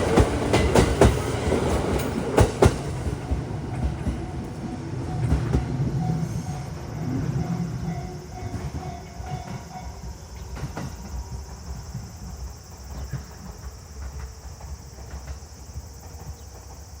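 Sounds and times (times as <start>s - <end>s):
train wheels rumbling over rails: 0.0s - 17.0s
wheels clicking at rail joints: 0.0s - 17.0s.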